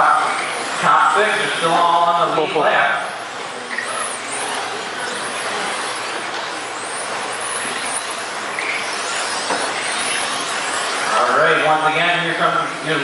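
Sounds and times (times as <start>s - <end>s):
electric motors whining: 0.0s - 13.0s
rushing noise of racing cars: 0.0s - 13.0s.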